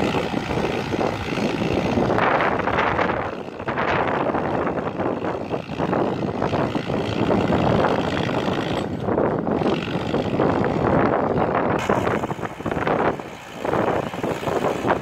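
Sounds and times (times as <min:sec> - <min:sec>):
distant tractor diesel engine: 0:00.0 - 0:15.0
wind on microphone: 0:00.0 - 0:15.0.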